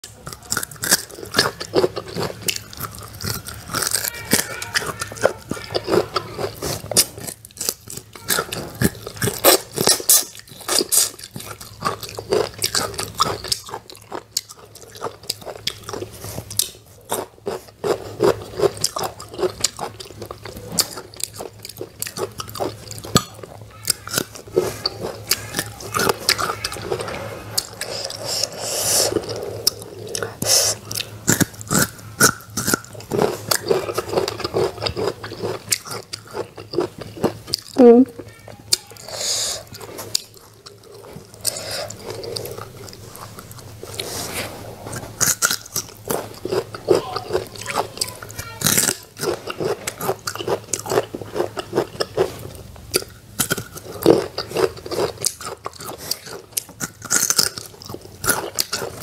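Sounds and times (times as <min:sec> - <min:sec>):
crunching and chewing fruit: 0:00.0 - 0:59.0.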